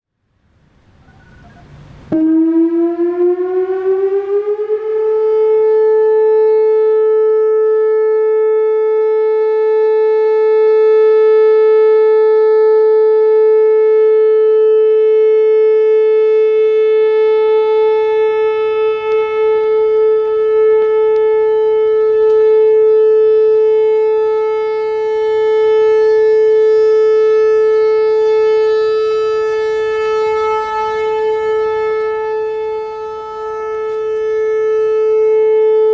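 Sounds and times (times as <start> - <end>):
electronic warning siren: 0.4 - 35.9.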